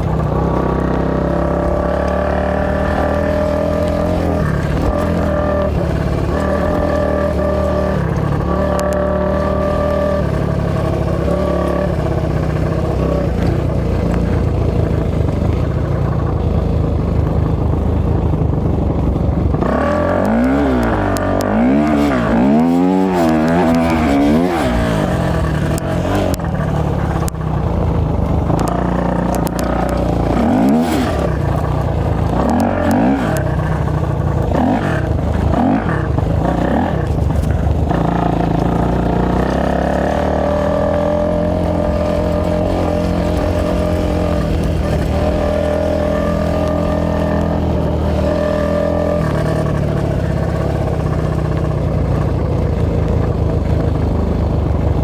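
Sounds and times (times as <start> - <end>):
off-road motorcycle engine revving: 0.0 - 55.0.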